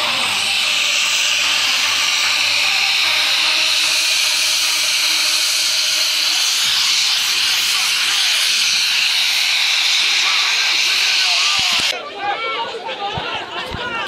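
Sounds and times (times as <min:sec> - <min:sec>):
gas jets hissing: 0:00.0 - 0:12.0.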